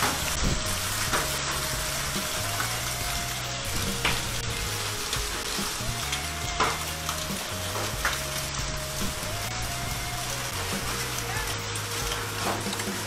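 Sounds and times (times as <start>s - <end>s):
hailstones striking: 0.0s - 13.0s
heavy rain hiss: 0.0s - 13.0s
low background music: 0.0s - 13.0s.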